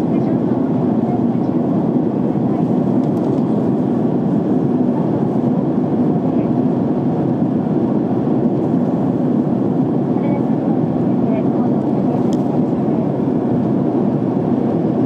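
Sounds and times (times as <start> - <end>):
airliner cabin engine rush: 0.0 - 15.0.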